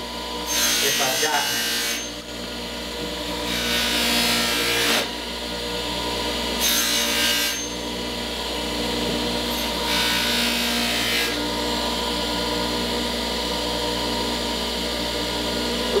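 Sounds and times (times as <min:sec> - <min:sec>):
bench grinder motor running: 0:00.0 - 0:16.0.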